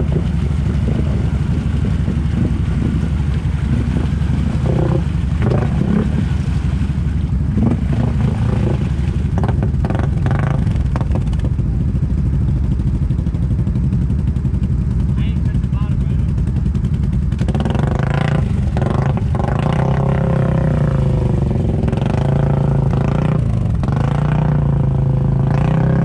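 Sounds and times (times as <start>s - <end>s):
atv engine running under load: 0.0s - 26.0s
mud and water splashing: 0.0s - 26.0s.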